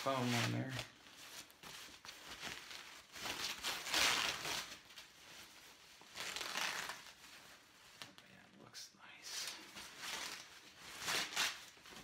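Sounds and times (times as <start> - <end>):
foam sheet rustling and crinkling: 0.0 - 8.2, 9.4 - 12.0.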